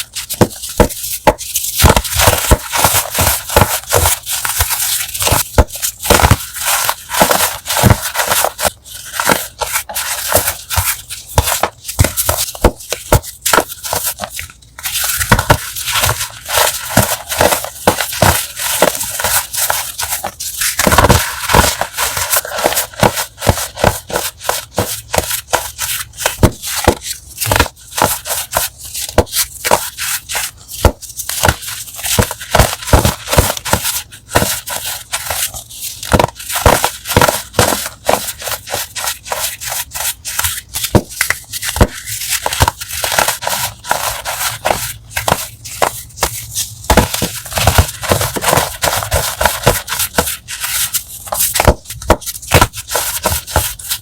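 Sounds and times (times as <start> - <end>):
chalk blocks being crushed: 0.0 - 54.0.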